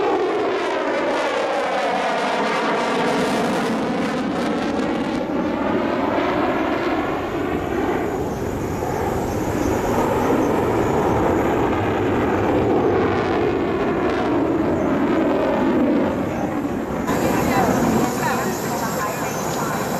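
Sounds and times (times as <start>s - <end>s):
jet flying past: 0.0s - 19.9s.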